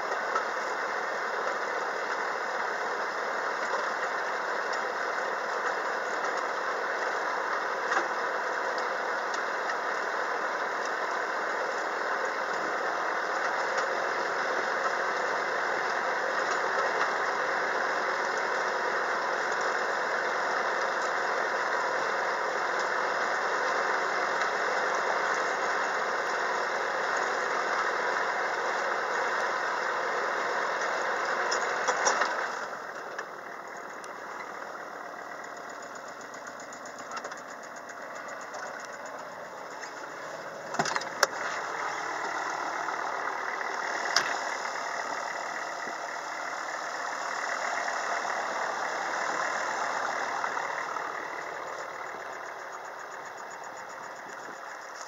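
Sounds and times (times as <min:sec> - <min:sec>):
rotary tiller cutting soil: 0:00.0 - 0:55.0
tractor diesel engine running: 0:00.0 - 0:55.0.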